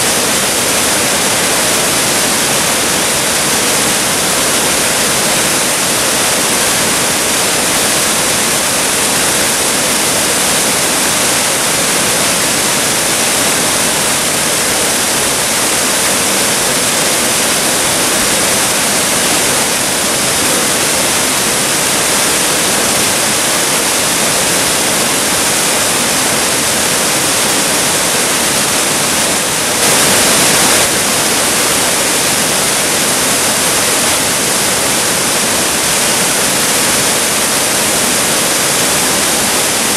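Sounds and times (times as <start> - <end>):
waterfall rushing into a pool: 0.0 - 39.9.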